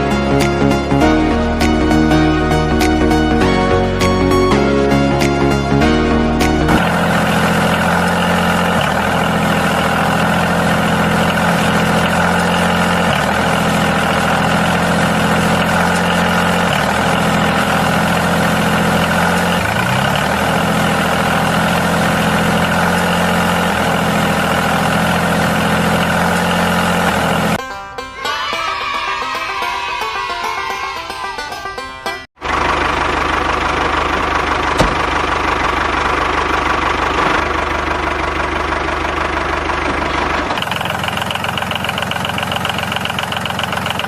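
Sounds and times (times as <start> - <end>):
tractor engine running: 0.0 - 28.4, 31.2 - 44.0.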